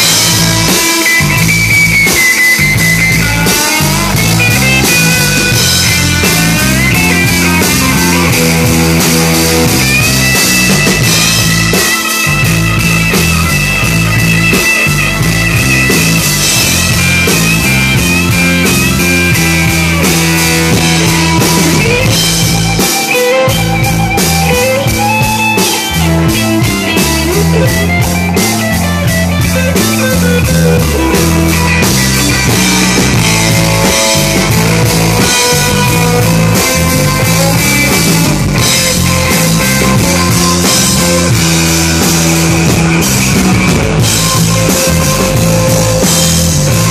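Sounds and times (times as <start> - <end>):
driving drum kit: 0.0 - 46.9
electric bass: 0.0 - 46.9
electric guitar lead: 0.0 - 46.9.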